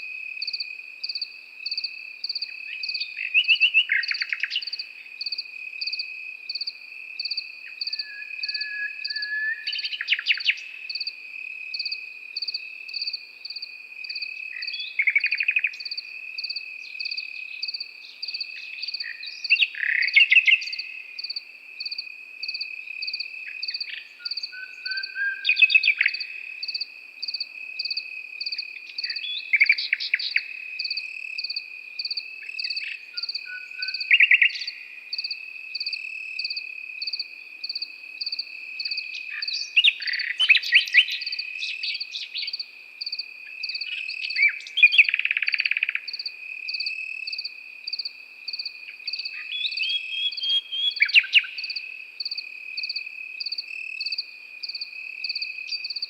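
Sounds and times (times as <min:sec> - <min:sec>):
crickets chirping: 0:00.0 - 0:56.0
nightingale singing: 0:00.0 - 0:56.0.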